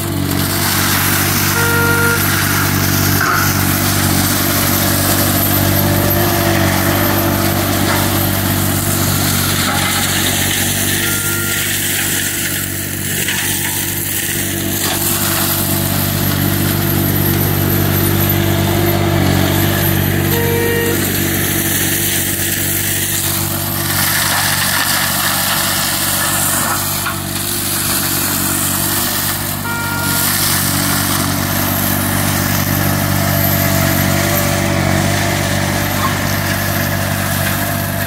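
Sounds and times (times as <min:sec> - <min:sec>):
mower engine running: 0:00.0 - 0:38.0.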